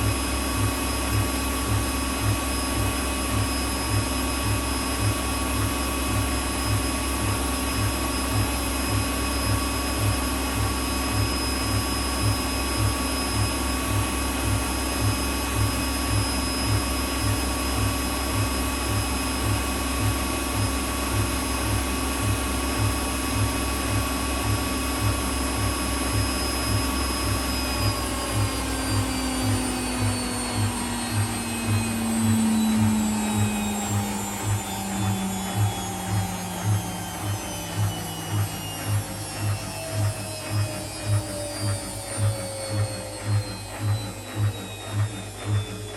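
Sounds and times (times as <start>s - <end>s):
low pulse from drum: 0.0s - 45.9s
washing machine motor whining: 0.0s - 45.9s.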